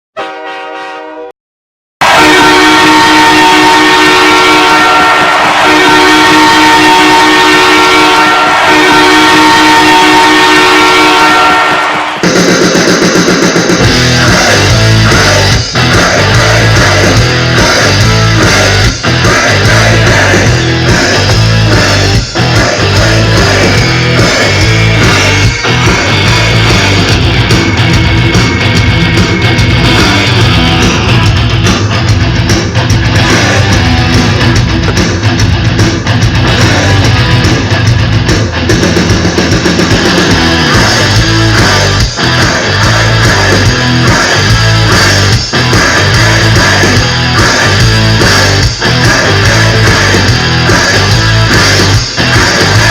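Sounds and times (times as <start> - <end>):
rock music with electric guitar: 2.0 - 52.9.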